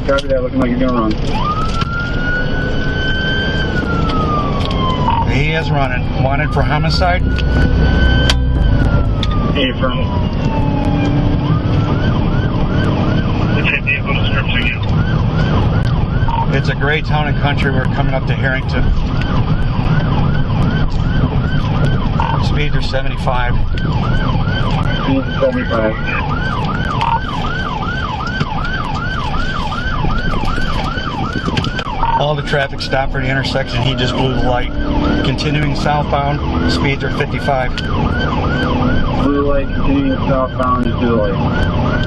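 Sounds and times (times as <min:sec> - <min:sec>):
car engine and road noise: 0:00.0 - 0:42.0
police siren wailing and yelping: 0:00.0 - 0:42.0.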